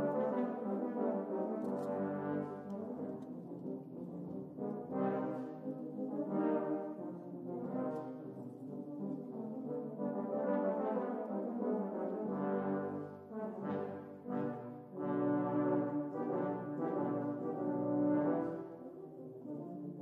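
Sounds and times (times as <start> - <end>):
slow brass-like background music: 0.0 - 20.0.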